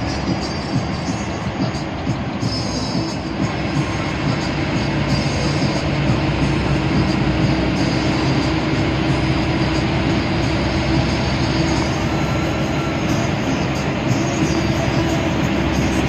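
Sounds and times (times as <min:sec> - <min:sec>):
bus engine hum: 0:00.0 - 0:16.0
road and tyre noise: 0:00.0 - 0:16.0.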